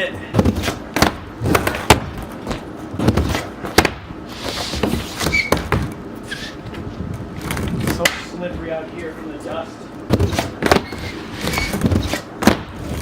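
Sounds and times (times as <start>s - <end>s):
skateboard wheels rolling: 0.1s - 9.4s, 10.0s - 13.0s.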